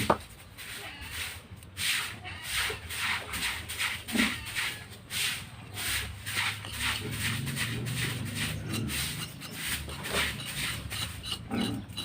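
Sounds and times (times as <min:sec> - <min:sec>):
scraping strokes: 0:00.0 - 0:12.0.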